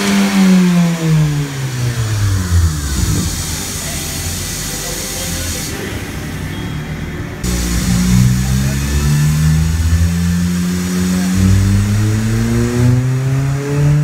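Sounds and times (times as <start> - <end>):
dull engine sound: 0.0 - 4.7, 7.3 - 14.0
turbocharged engine running hard: 0.0 - 6.5, 7.4 - 14.0.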